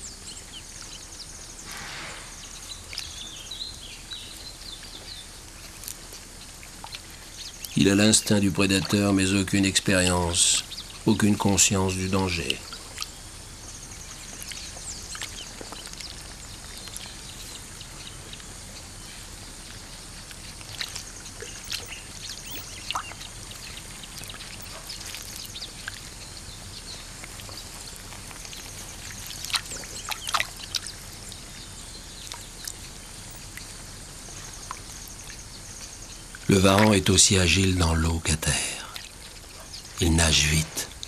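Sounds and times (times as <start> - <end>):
steady background hiss: 0.0 - 41.0
water sounds: 0.0 - 41.0.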